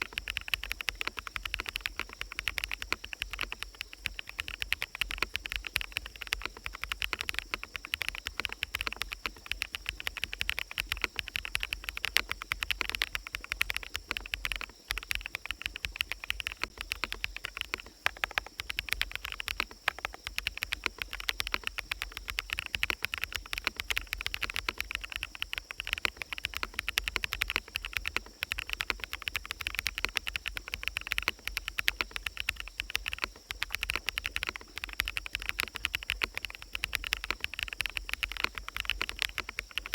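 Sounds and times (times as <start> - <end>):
forest ambience: 0.0 - 39.9
mechanical keyboard typing: 0.0 - 39.9.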